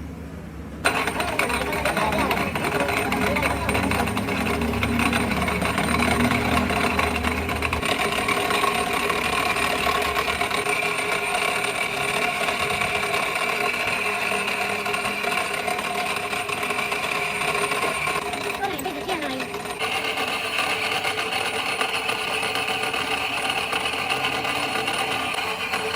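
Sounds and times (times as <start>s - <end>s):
machine whining: 0.7s - 25.9s.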